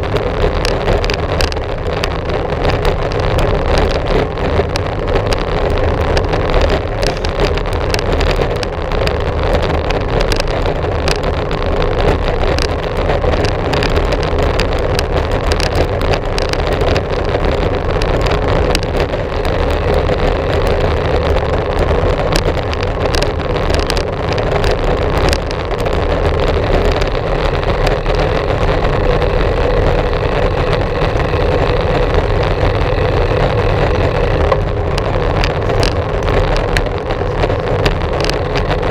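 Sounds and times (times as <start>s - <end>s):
bicycle tyre rumble: 0.0s - 38.9s
small clicks and rattles: 0.0s - 38.9s
wind over microphone: 0.0s - 38.9s.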